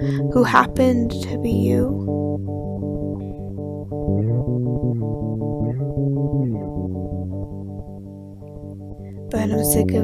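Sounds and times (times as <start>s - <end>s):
bass guitar line: 0.0s - 10.0s
plucked guitar: 0.0s - 10.0s.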